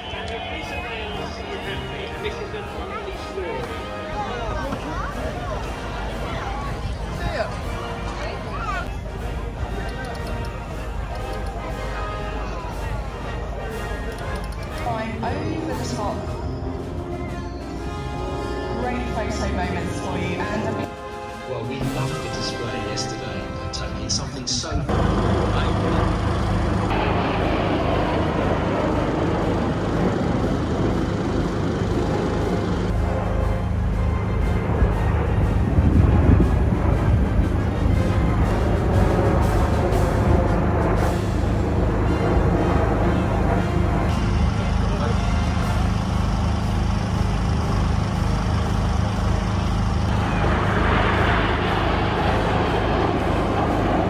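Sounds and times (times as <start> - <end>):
aircraft engine rumble overhead: 0.0 - 54.0.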